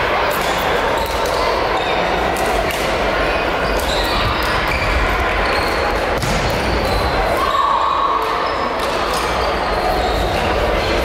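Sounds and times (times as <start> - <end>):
many voices echoing: 0.0 - 11.0.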